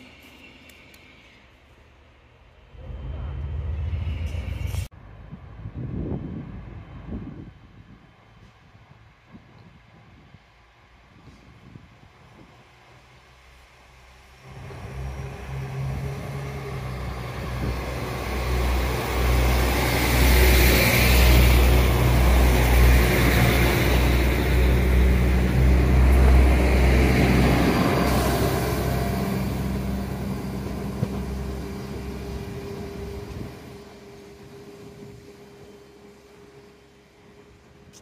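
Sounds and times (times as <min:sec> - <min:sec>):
passenger train passing: 0:00.0 - 0:38.0.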